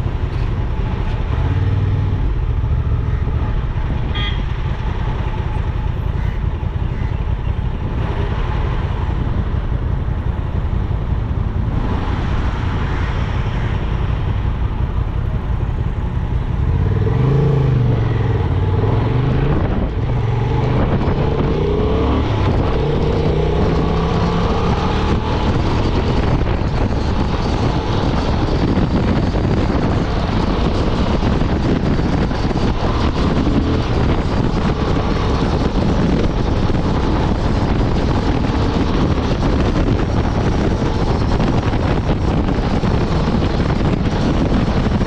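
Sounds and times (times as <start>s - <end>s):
motorcycle engine: 0.0s - 45.0s
wind and road rush: 0.0s - 45.0s.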